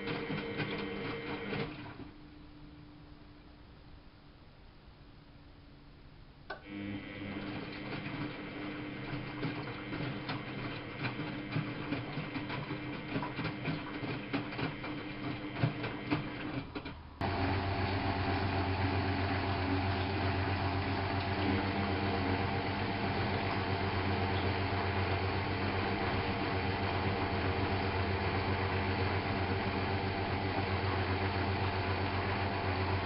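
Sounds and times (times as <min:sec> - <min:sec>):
washing machine motor humming: 0:00.0 - 0:02.2, 0:06.5 - 0:33.0.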